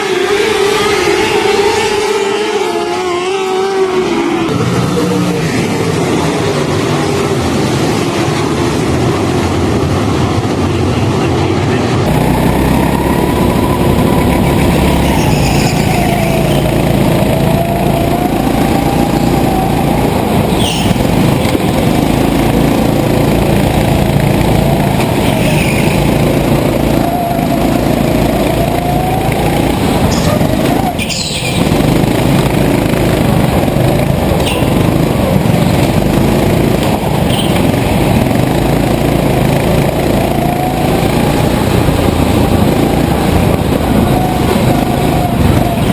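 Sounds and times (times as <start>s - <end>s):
racing engines accelerating: 0.0s - 45.9s.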